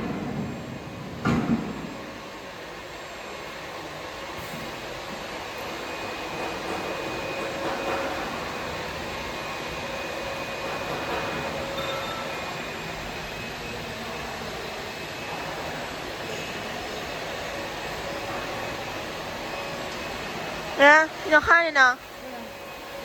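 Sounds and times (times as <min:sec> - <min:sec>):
workshop machinery hiss: 0:00.2 - 0:23.0.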